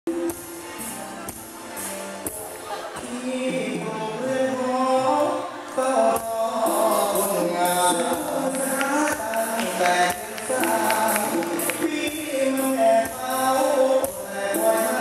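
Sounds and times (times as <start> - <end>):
man singing into microphone: 0.1 - 1.0, 2.3 - 15.0
amplified stage music: 0.1 - 15.0.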